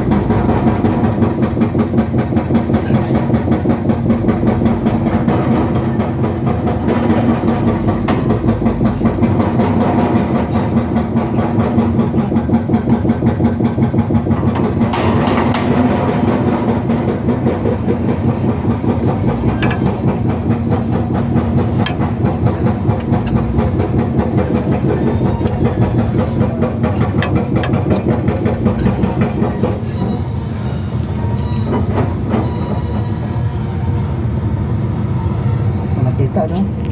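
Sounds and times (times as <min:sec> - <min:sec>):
hydraulic breaker hammering: 0:00.0 - 0:34.5
excavator diesel engine: 0:00.0 - 0:36.9.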